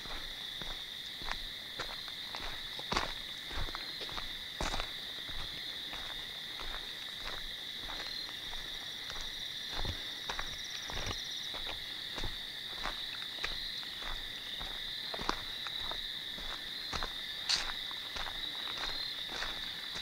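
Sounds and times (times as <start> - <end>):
footsteps crunching dry leaves: 0.0 - 20.0
night insects trilling: 0.0 - 20.0.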